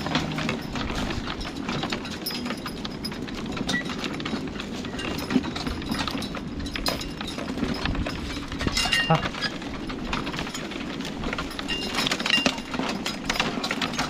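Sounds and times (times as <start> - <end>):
harness and cart rattling: 0.0 - 14.0
horse hooves clattering: 0.0 - 14.0.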